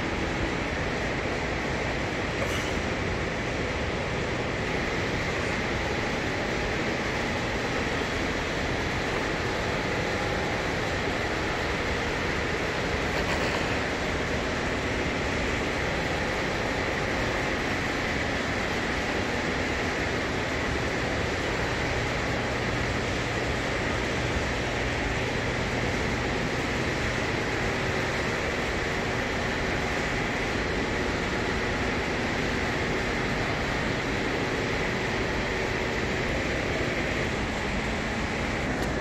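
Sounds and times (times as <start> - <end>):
steady rushing noise: 0.0 - 39.0.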